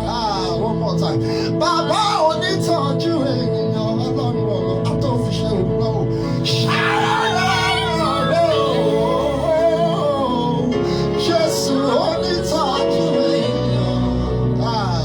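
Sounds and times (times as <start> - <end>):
held instrumental chords and bass: 0.0 - 15.0
solo voice singing: 0.0 - 15.0.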